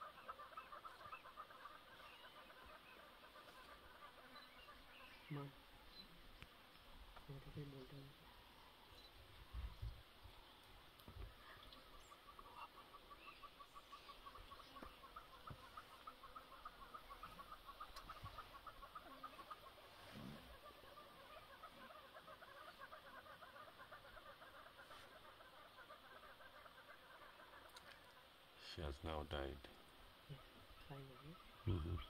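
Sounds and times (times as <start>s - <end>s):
bird clucking chatter: 0.0s - 6.5s, 8.9s - 32.0s.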